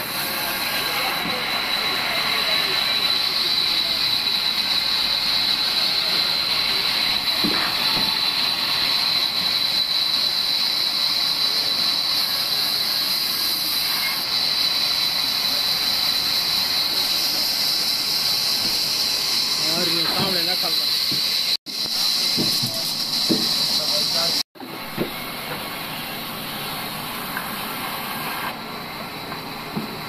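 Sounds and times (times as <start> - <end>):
band saw running: 0.0 - 29.8.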